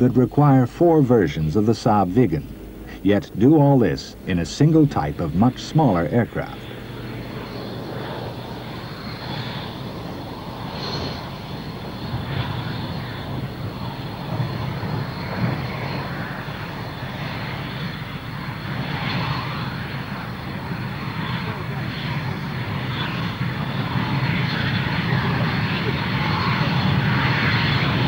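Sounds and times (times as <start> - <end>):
jet engine running with whine: 0.0 - 28.0.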